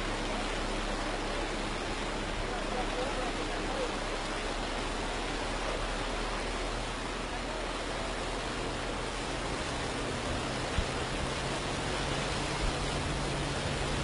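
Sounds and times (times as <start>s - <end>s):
floodwater rushing and churning: 0.0s - 14.0s.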